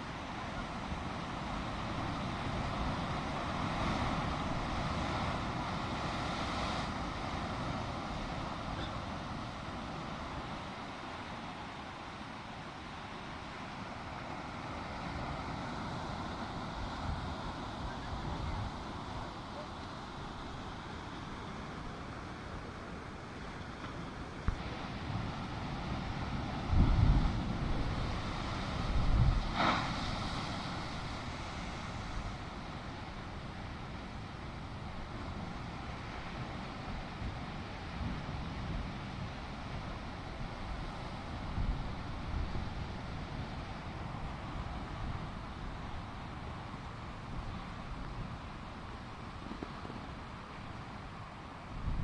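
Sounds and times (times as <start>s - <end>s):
sea surf rushing: 0.0s - 52.0s.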